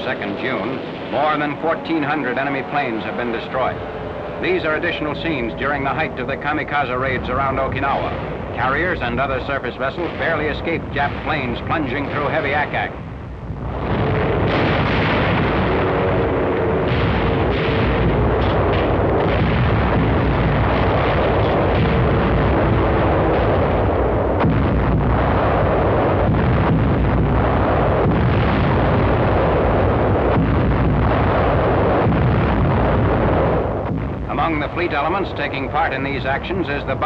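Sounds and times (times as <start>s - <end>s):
explosions rumbling: 0.0s - 37.0s
anti-aircraft gunfire cracks: 5.6s - 13.0s, 13.7s - 37.0s.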